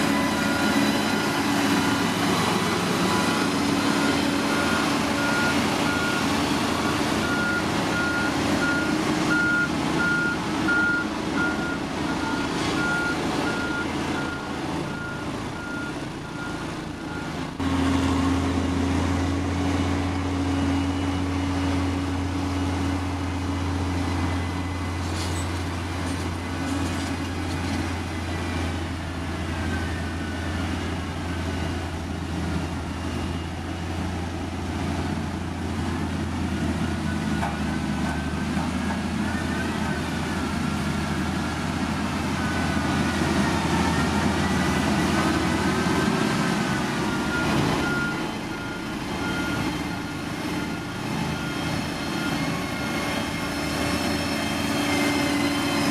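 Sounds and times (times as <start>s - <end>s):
reversing alarm beeping: 0.0s - 17.4s, 23.5s - 31.8s, 36.5s - 55.9s
diesel engine running: 0.0s - 55.9s.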